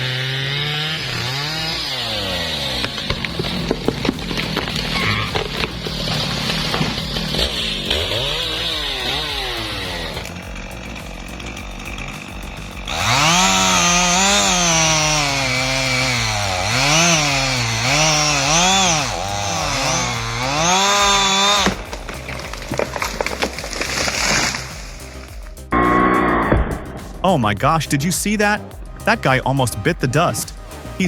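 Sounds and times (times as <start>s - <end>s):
chainsaw cutting wood: 0.0s - 27.2s.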